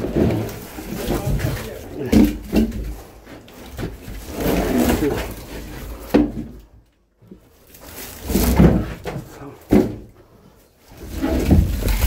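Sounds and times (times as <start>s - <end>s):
firewood logs clunking: 0.0s - 12.0s.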